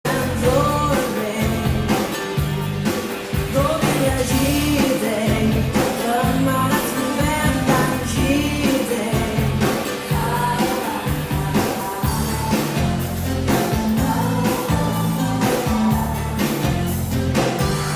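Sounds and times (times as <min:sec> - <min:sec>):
pop-rock song with vocals: 0:00.0 - 0:17.9.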